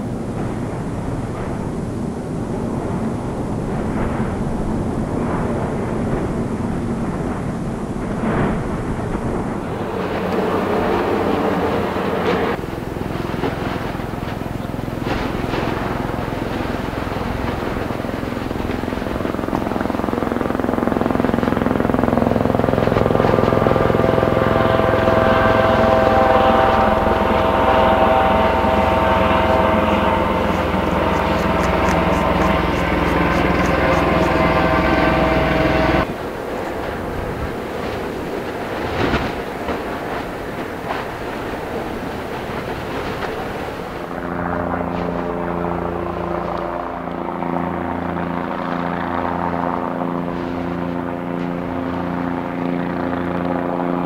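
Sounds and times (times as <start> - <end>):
lava rumbling and churning: 0.0 - 45.4
faint steady whine: 0.0 - 54.0
lava splashing: 0.6 - 44.2.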